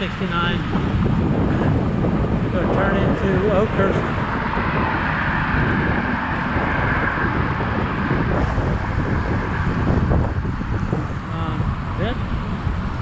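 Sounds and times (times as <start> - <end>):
freeway traffic rushing: 0.0 - 13.0
wind rumbling on microphone: 0.0 - 13.0.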